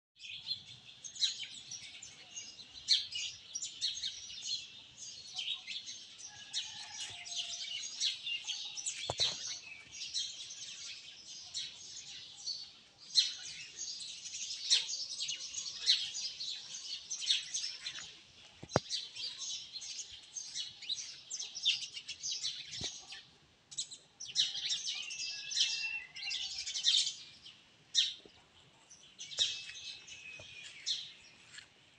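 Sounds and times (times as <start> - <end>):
small birds chirping: 0.2 - 31.9.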